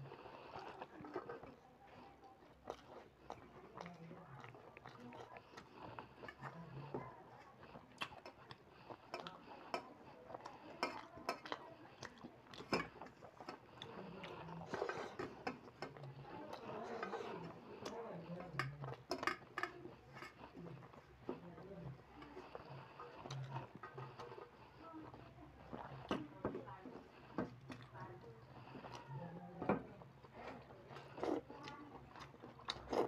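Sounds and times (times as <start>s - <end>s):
fingers mixing rice on metal plate: 5.0s - 33.0s.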